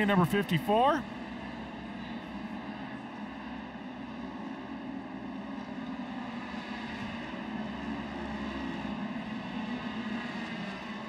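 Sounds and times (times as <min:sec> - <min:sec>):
racing engines droning: 0:00.0 - 0:11.0.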